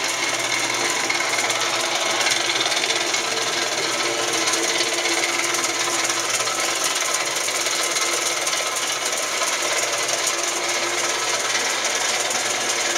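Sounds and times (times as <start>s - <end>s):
lathe gearing hiss and rumble: 0.0s - 12.9s.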